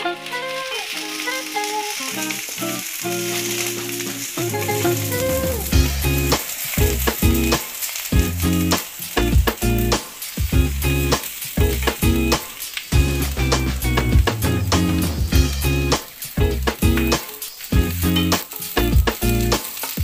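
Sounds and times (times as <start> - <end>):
background music: 0.0 - 20.0
shallots sizzling in hot oil: 0.0 - 20.0.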